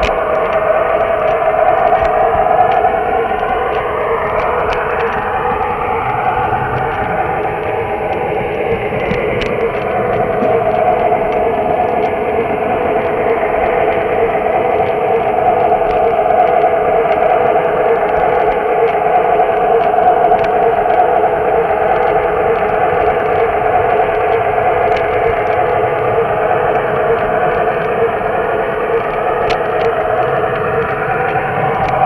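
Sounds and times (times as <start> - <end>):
faint clicks from track: 0.0 - 32.0.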